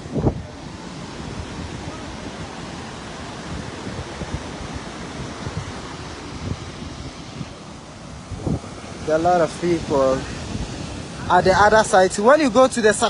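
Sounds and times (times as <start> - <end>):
ocean surf on sandy beach: 0.0 - 13.0
wind buffeting microphone: 0.0 - 13.0.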